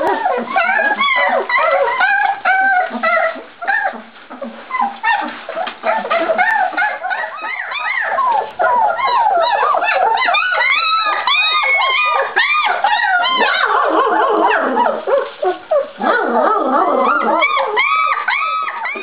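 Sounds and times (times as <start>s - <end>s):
puppies whining and squealing: 0.0s - 19.0s.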